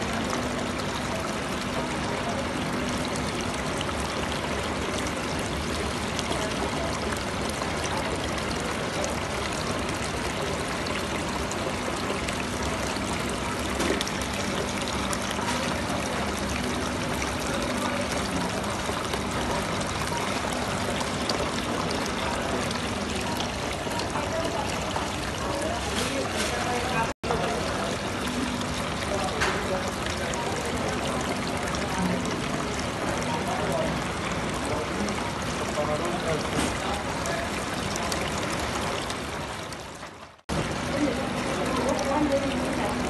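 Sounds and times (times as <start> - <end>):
fountain water pouring and splashing: 0.0 - 43.0.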